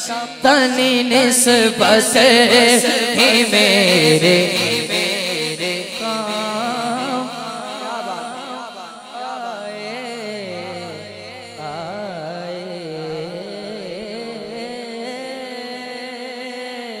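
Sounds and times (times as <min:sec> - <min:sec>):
man singing ornamented melody: 0:00.0 - 0:17.0.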